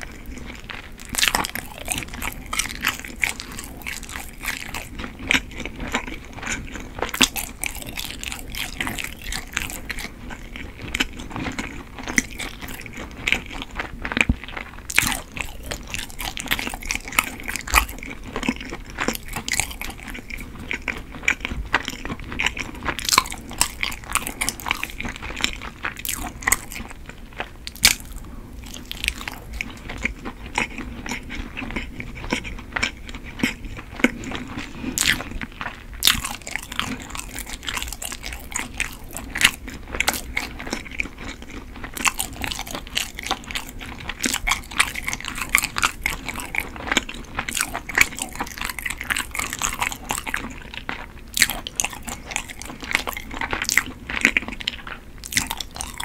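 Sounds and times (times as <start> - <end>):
wet chewing mouth clicks: 0.0 - 56.0.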